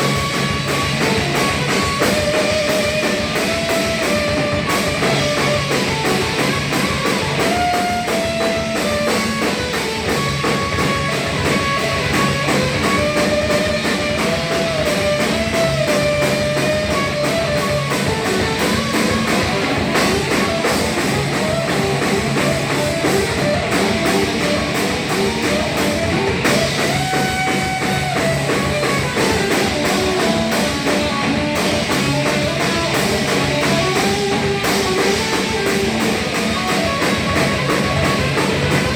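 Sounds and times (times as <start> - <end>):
driving drum beat: 0.0 - 38.9
electric guitar line: 0.0 - 38.9
hardcore band playing live: 0.0 - 38.9.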